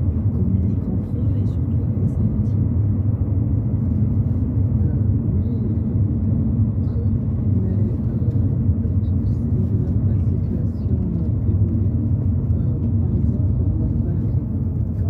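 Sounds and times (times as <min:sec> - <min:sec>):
car engine and tyre road noise: 0:00.0 - 0:15.0.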